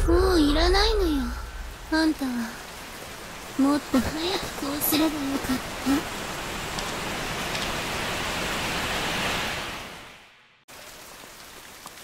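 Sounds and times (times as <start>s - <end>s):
rain drops: 0.0s - 12.0s
steady rain: 0.0s - 12.0s.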